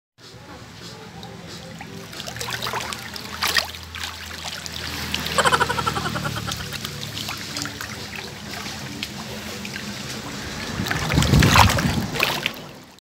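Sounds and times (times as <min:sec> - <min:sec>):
pool water sloshing: 0:00.8 - 0:13.0.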